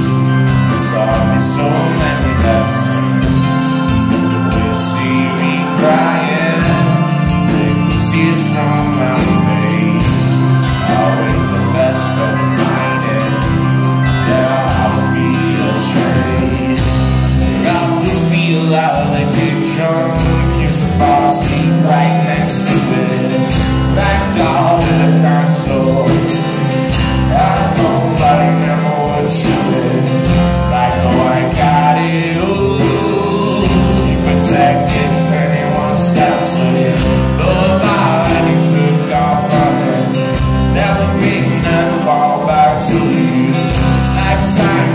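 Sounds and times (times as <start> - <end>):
live band playing: 0.0 - 44.9
man singing: 0.0 - 44.9.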